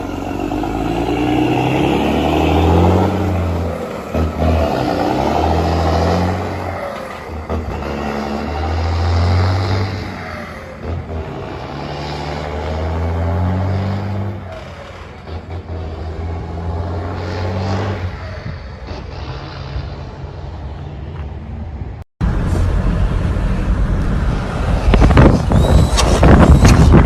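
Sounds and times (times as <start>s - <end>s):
truck diesel engine accelerating: 0.0s - 27.0s.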